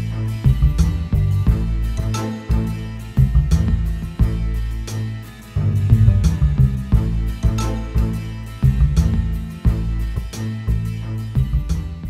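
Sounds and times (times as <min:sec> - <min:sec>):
held bass notes: 0:00.0 - 0:12.0
instrumental music with steady beat: 0:00.0 - 0:12.0.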